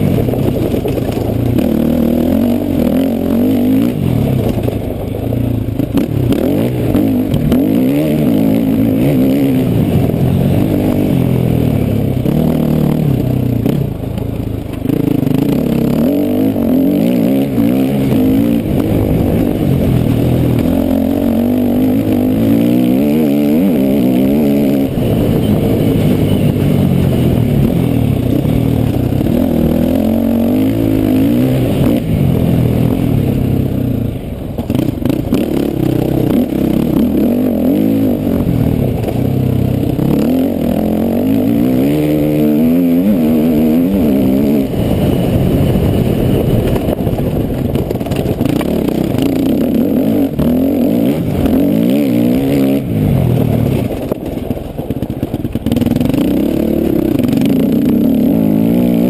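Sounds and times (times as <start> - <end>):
motocross bike engine revving: 0.0 - 4.7, 5.7 - 14.0, 14.8 - 46.9, 48.0 - 54.2, 55.4 - 59.0.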